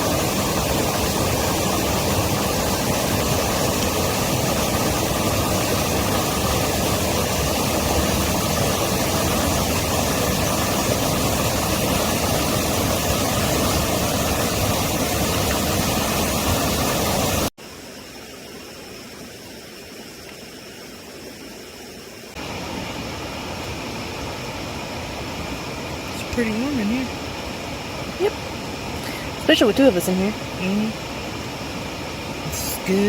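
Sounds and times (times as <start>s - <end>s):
heavy rain hissing: 0.0s - 17.5s, 22.3s - 33.0s.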